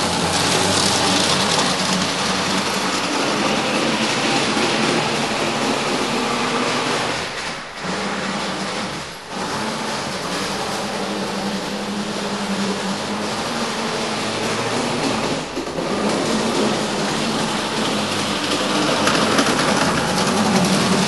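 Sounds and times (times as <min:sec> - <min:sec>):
model tram motor whirring: 0:00.0 - 0:21.0.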